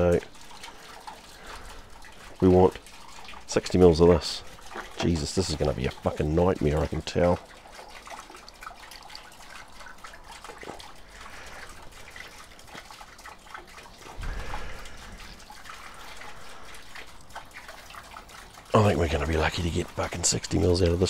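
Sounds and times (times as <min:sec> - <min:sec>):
juice dripping and trickling: 0:00.0 - 0:21.0.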